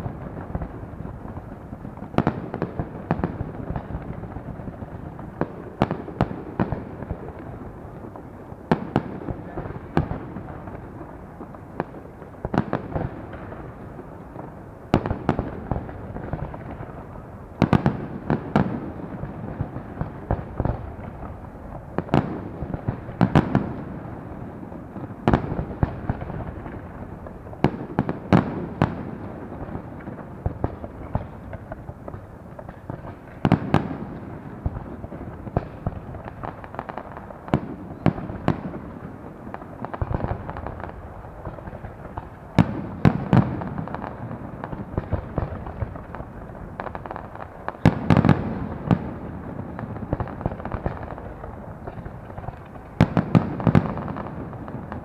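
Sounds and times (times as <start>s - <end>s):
firework bangs and crackles: 0.0s - 55.0s.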